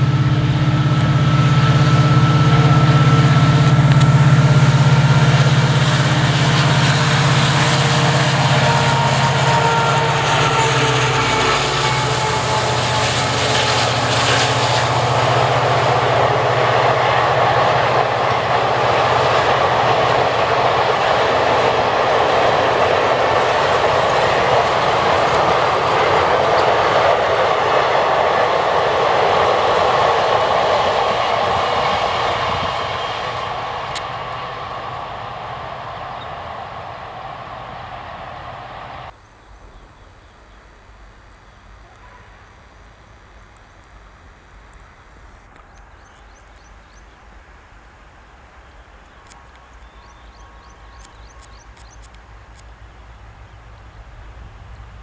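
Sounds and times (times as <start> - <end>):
train wheels rolling on rails: 0.0 - 39.2, 48.6 - 55.0
diesel locomotive engine drone: 0.0 - 55.0.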